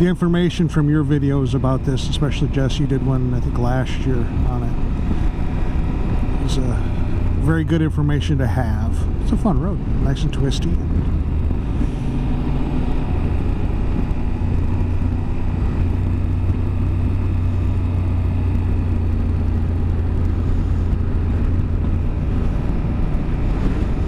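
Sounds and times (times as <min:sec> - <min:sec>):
motorcycle engine cruising: 0:00.0 - 0:24.0
rush of riding wind: 0:00.0 - 0:24.0.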